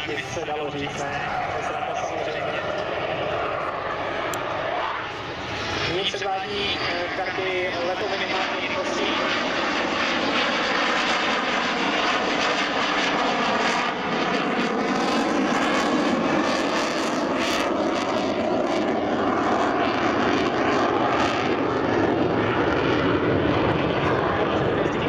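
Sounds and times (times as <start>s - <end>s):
loud jet roar: 0.0s - 25.0s.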